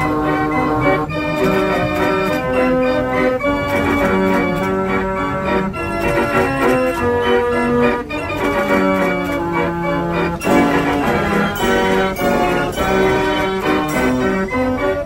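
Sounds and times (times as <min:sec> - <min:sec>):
organ chords: 0:00.0 - 0:15.0.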